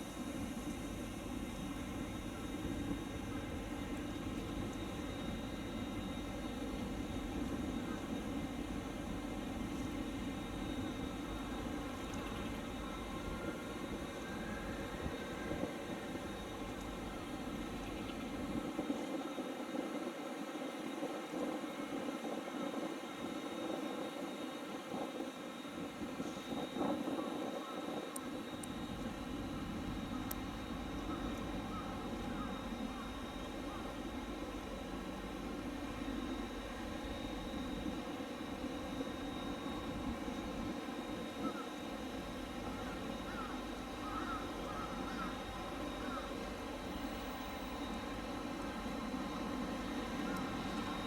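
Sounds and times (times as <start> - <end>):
mechanical drone with high whine: 0.0 - 51.0.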